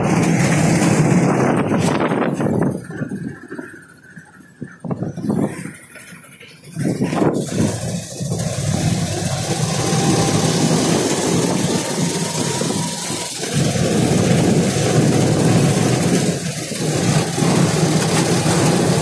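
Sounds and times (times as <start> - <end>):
auto-rickshaw engine running: 0.0 - 19.0.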